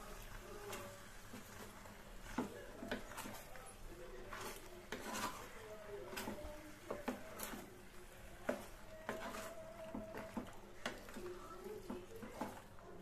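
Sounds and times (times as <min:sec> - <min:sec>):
spatula stirring pasta in metal pan: 0:00.0 - 0:13.0.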